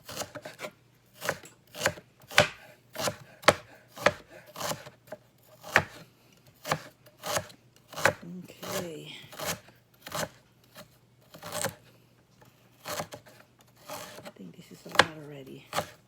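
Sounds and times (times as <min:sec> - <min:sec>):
knife chopping on cutting board: 0:00.0 - 0:06.0, 0:06.6 - 0:11.8, 0:12.8 - 0:14.3, 0:14.9 - 0:16.0.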